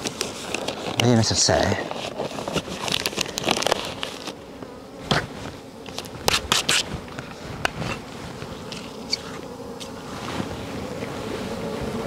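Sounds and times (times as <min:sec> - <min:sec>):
sharp clicks and rustles: 0:00.0 - 0:01.2, 0:01.8 - 0:10.5
bees buzzing: 0:00.0 - 0:12.0.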